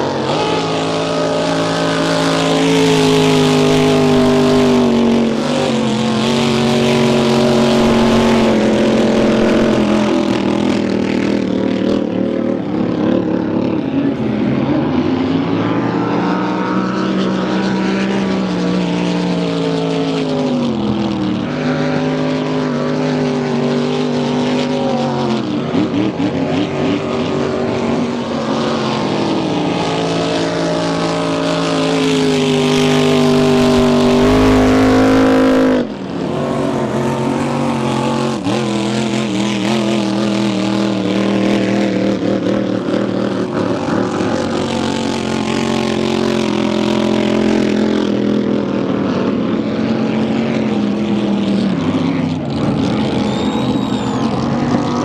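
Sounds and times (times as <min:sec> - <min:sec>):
race boat engines running: 0:00.0 - 0:55.0.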